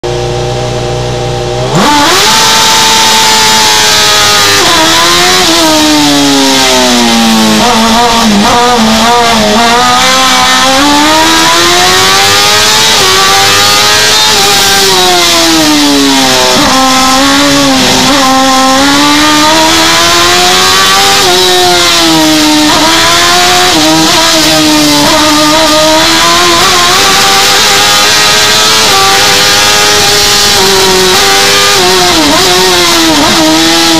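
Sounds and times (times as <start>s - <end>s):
race car engine revving: 0.0s - 33.9s.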